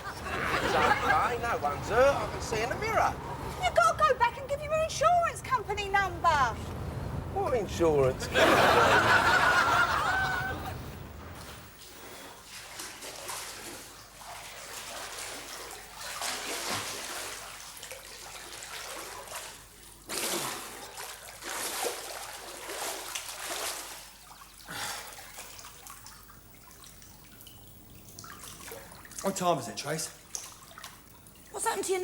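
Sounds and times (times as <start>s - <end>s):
water splashing in a pool: 6.3s - 32.0s.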